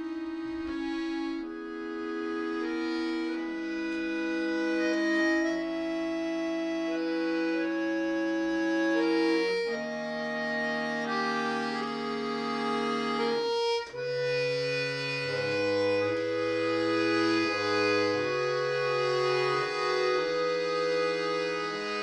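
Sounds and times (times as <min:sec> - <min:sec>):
accordion playing held chords: 0:00.0 - 0:22.0.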